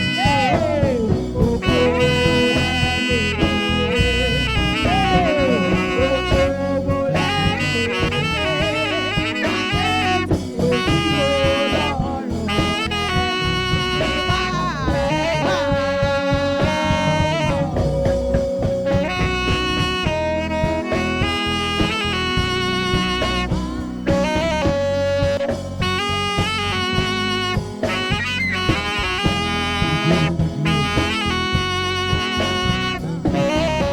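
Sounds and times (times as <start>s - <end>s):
melody with bending notes: 0.0s - 33.9s
steady drum beat: 0.0s - 33.9s.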